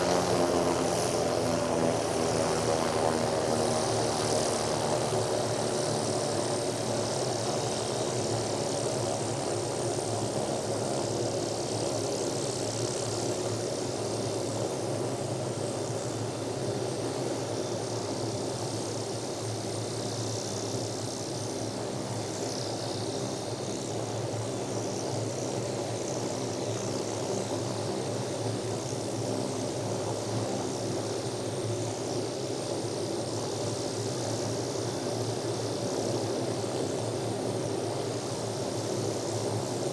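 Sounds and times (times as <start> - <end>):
helicopter turbine whine: 0.0 - 39.9
rotor and engine drone: 0.0 - 39.9.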